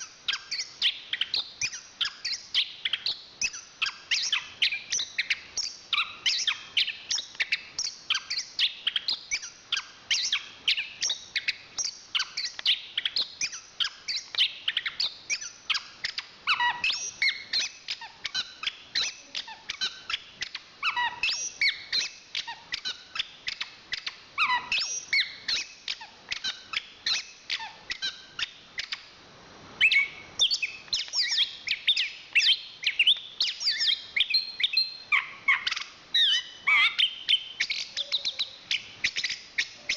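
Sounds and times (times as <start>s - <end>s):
thrush singing chirps and warbles: 0.0s - 29.2s, 29.8s - 39.9s.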